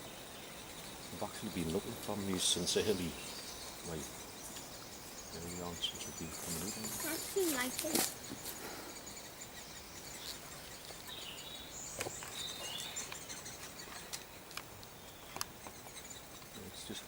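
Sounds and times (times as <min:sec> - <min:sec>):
background hiss: 0:00.0 - 0:17.0
bird chirps: 0:00.0 - 0:17.0.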